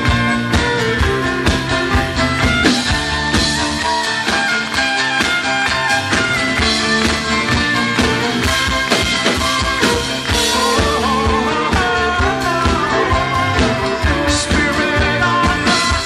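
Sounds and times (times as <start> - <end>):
folk-rock band playing: 0.0 - 16.0.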